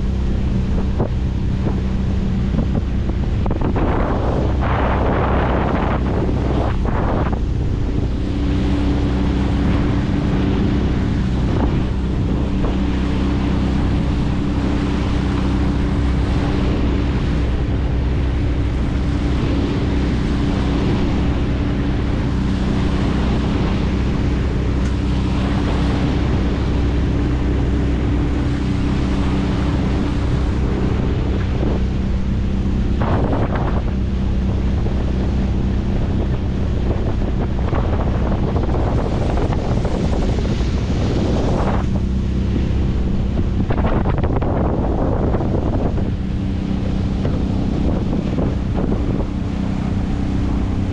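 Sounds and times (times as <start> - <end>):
outboard motor running: 0.0 - 50.9
water rushing past hull: 0.0 - 50.9
wind buffeting microphone: 0.0 - 50.9.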